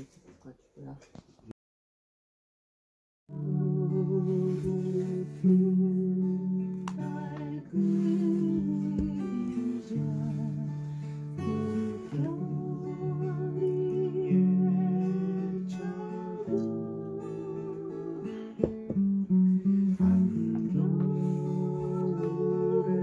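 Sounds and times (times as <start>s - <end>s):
acoustic guitar music: 3.3s - 23.0s.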